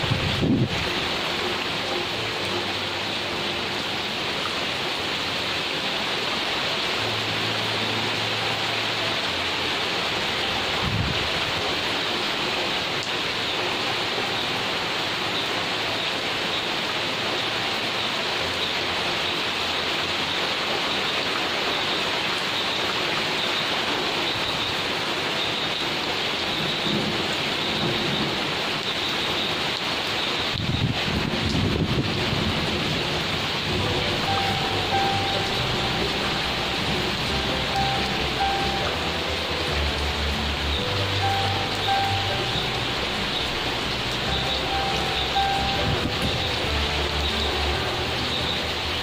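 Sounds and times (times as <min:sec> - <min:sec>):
rain on leaves and grass: 0:00.0 - 0:49.0.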